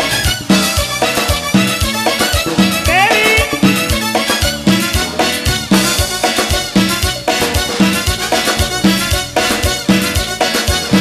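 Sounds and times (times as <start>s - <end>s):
live dance band: 0.0s - 11.0s.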